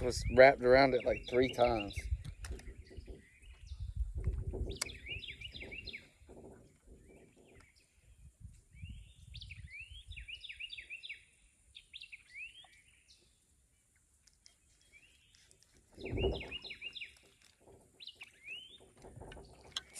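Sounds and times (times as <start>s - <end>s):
low rumbling handling noise: 0.0s - 10.4s, 14.2s - 19.9s
songbird chirping: 0.0s - 19.9s.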